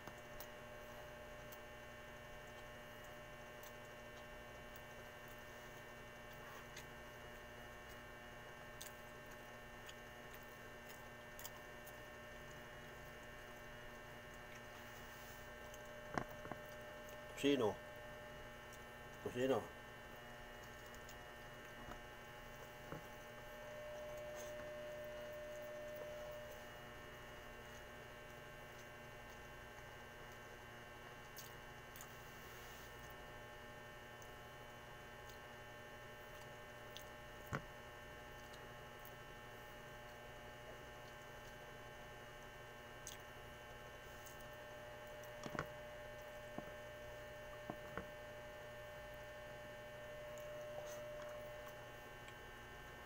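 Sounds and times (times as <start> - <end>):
faint whine: 0.0 - 33.2, 36.3 - 53.0
electrical mains hum: 0.0 - 53.0.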